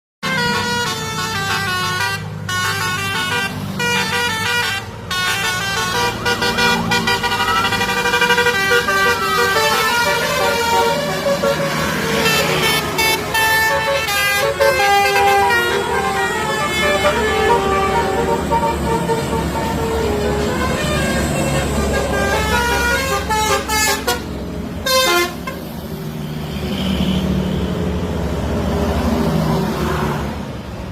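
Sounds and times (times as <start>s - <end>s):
bus horns playing tunes: 0.2s - 26.0s
bus engines running: 0.2s - 30.9s.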